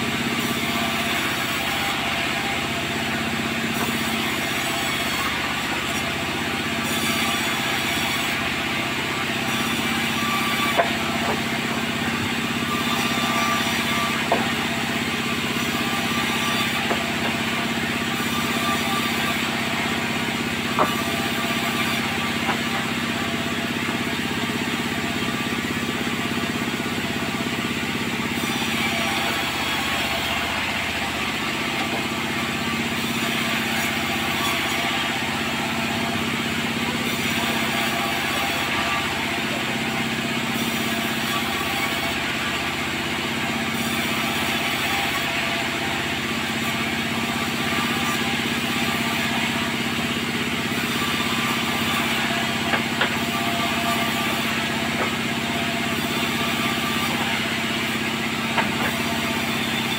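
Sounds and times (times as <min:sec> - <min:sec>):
engine-driven saw humming: 0:00.0 - 0:59.9.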